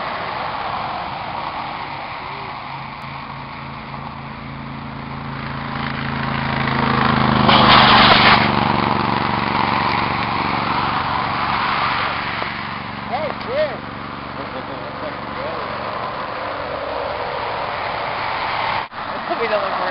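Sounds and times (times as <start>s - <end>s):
rocket motor rushing burst: 0.0s - 19.0s
car passing by: 0.0s - 19.9s
steady engine hum: 0.0s - 19.9s.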